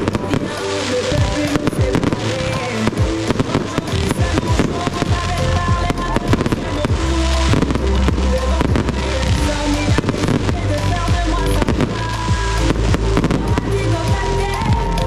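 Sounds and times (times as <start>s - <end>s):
fireworks bangs and cracks: 0.0s - 15.0s
music: 0.0s - 15.0s.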